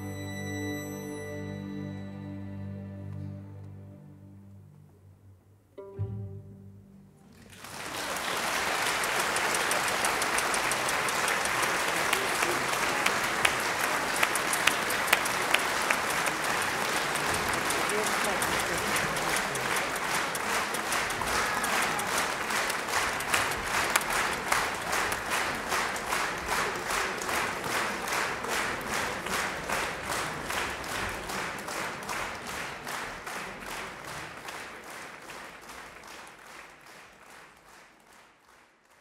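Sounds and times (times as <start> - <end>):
audience applauding: 7.3 - 39.0.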